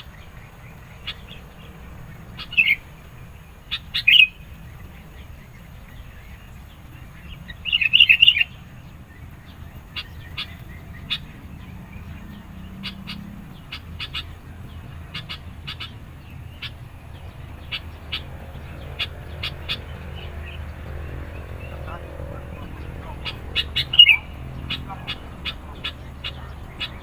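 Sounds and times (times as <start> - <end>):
bird chattering calls: 0.0 - 27.0.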